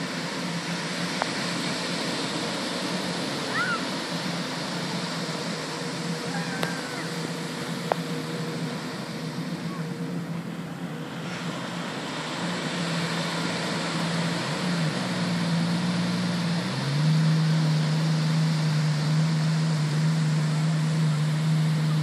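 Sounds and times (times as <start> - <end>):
jet ski engine humming: 0.0 - 22.0
surf washing: 0.0 - 22.0.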